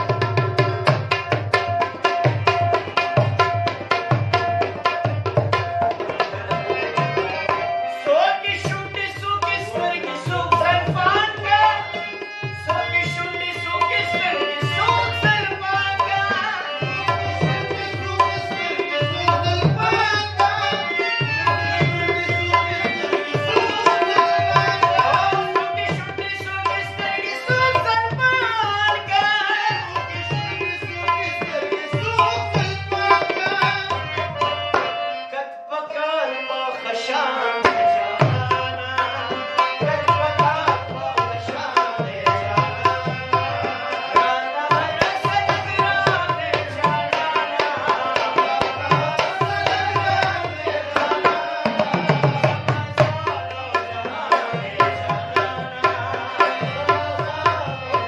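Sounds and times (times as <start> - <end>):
tabla drumming: 0.0 - 35.3, 37.6 - 58.0
man singing: 0.0 - 58.0.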